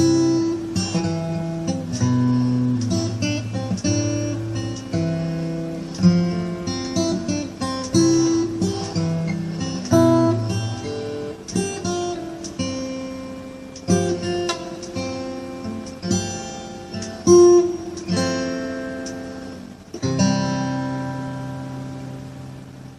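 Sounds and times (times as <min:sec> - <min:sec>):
acoustic guitar music: 0:00.0 - 0:22.9.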